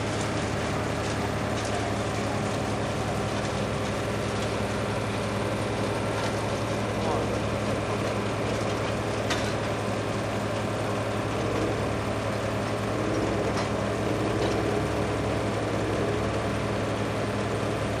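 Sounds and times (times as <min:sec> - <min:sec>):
diesel engine running: 0:00.0 - 0:18.0
hydraulic crane lifting logs: 0:00.0 - 0:18.0.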